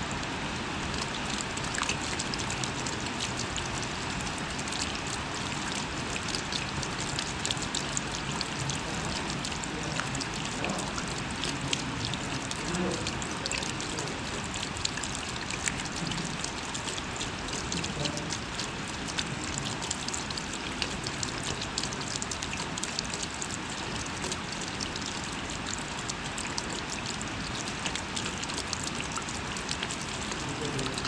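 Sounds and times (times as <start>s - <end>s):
steady rain hiss: 0.0s - 22.4s, 23.0s - 31.0s
raindrops ticking: 0.3s - 31.0s.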